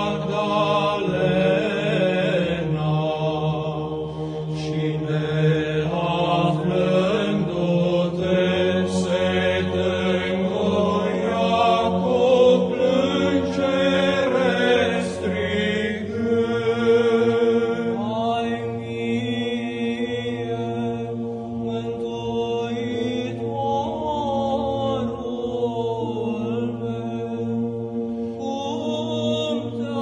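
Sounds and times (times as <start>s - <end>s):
voices chanting: 0.0s - 30.0s.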